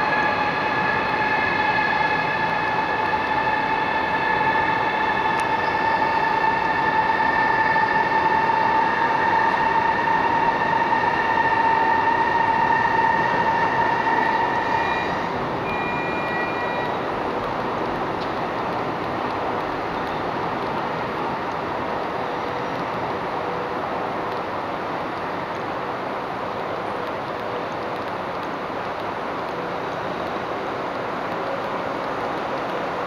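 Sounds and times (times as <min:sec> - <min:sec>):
electric train whine: 0:00.0 - 0:33.0.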